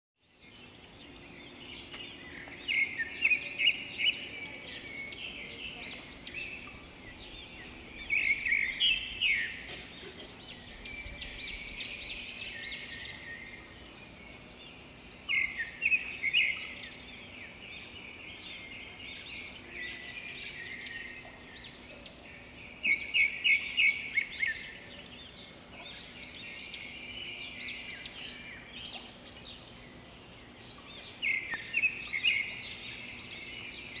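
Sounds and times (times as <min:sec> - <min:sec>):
small birds twittering and chirping: 0:00.2 - 0:34.0.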